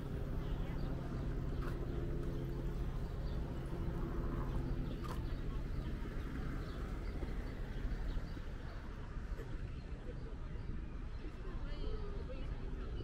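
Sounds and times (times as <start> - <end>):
engine hum: 0.0 - 13.0
low rumble of traffic: 0.0 - 13.0.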